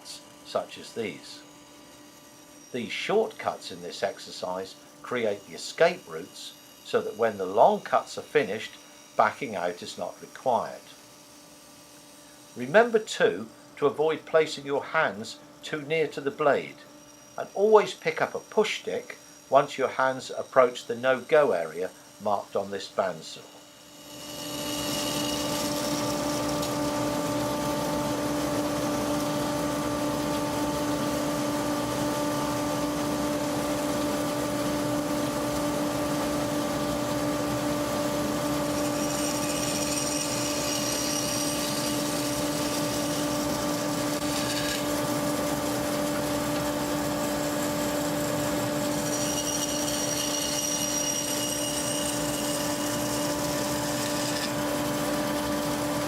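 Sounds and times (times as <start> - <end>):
bandsaw cutting wood: 0.0 - 56.0
bandsaw humming: 0.0 - 56.0.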